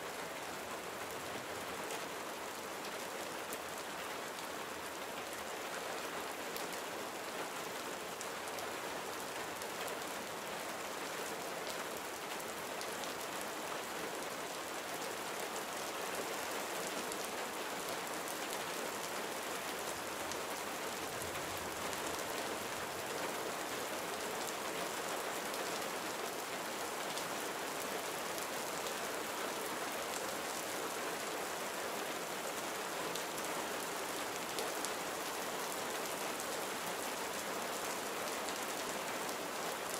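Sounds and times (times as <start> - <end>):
gentle rain pattering: 0.0 - 39.9.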